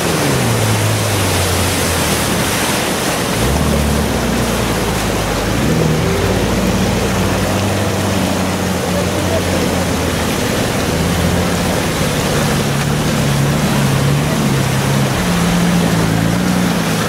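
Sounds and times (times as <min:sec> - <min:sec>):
car engine running: 0:00.0 - 0:17.0
stream flowing: 0:00.0 - 0:17.0
water splashing around tyres: 0:00.0 - 0:17.0.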